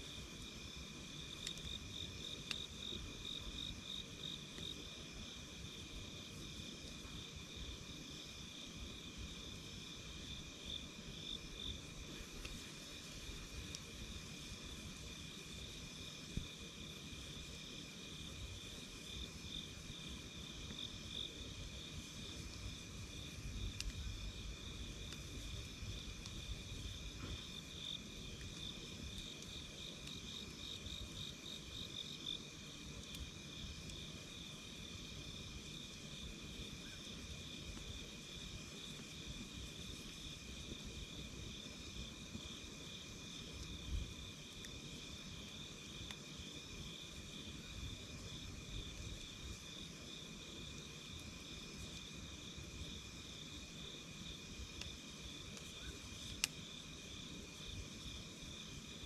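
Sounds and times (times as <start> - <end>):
campfire low rumble: 0.0 - 59.0.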